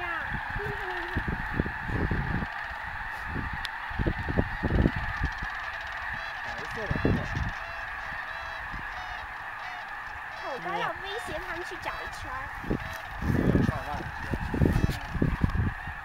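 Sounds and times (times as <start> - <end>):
geese honking in flight: 0.0 - 16.0
wind gusts on microphone: 0.0 - 16.0.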